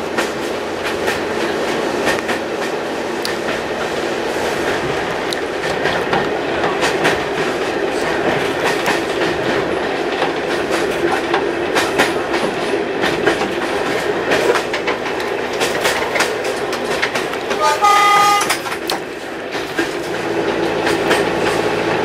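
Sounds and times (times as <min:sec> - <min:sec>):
wheels clicking over rail joints: 0:00.0 - 0:04.0, 0:04.6 - 0:22.0
railway carriage rumble and rattle: 0:00.0 - 0:22.0.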